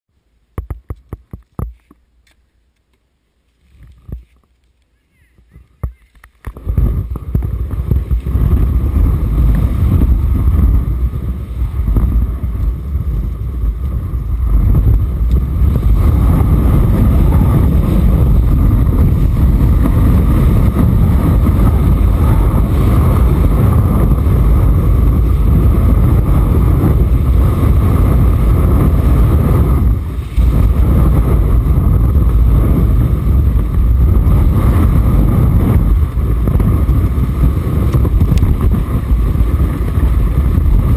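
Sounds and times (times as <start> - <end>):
wind rumbling on microphone: 3.5 - 40.9
skis scraping on snow: 6.0 - 40.9.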